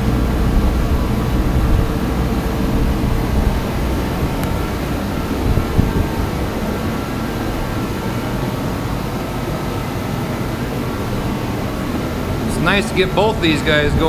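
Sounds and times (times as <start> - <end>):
forced-air heater running: 0.0 - 14.0.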